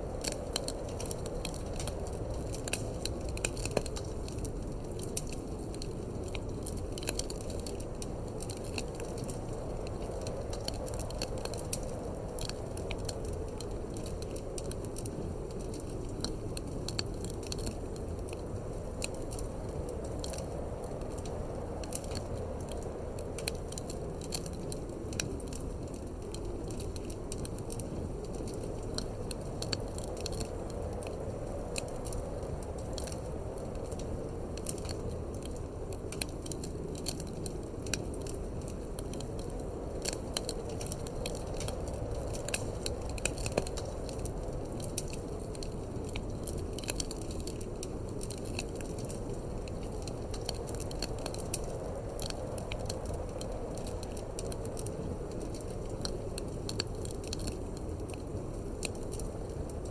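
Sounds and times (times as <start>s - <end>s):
low rumble of wind: 0.0s - 59.9s
wood fire crackling and popping: 0.0s - 59.9s.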